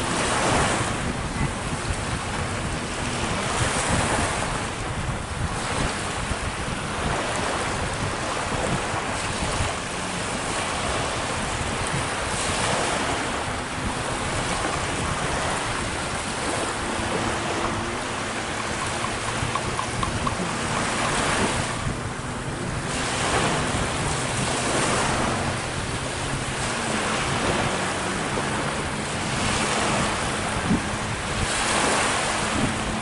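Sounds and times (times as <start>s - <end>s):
sea surf: 0.0s - 33.0s
wind buffeting microphone: 0.0s - 33.0s.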